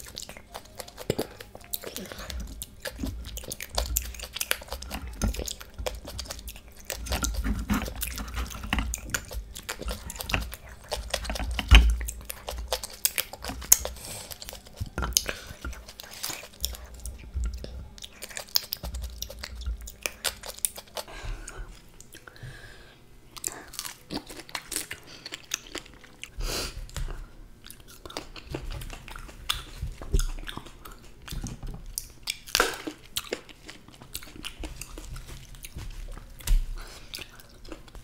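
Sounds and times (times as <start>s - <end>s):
chewing fruit: 0.0s - 22.6s, 23.3s - 38.0s.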